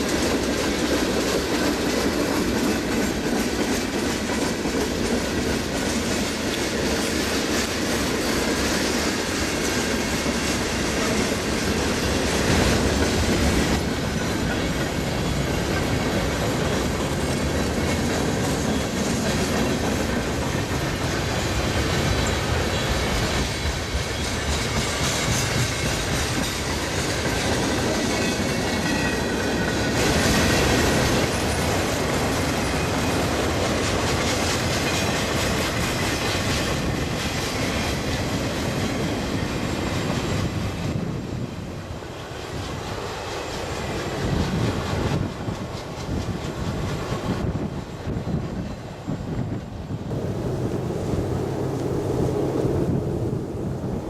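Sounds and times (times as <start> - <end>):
train wheels clattering on rails: 0.0 - 52.1.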